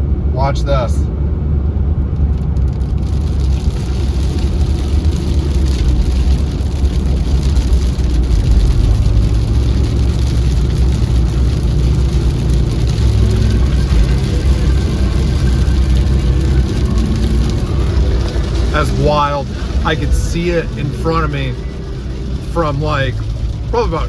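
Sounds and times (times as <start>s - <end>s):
engine and road noise: 0.0s - 24.0s
heavy rain pelting car: 0.0s - 24.0s.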